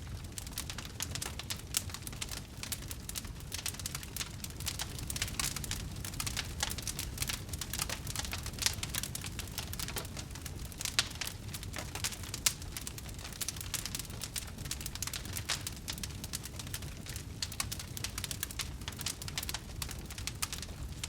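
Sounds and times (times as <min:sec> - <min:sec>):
low rumble of flame: 0:00.0 - 0:21.0
wood crackling and popping: 0:00.0 - 0:21.0.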